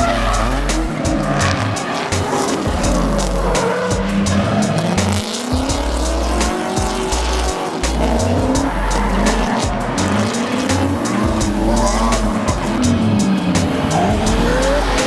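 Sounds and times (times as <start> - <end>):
background music: 0.0 - 15.0
car engine revving: 0.0 - 15.0
tyres squealing: 0.0 - 15.0.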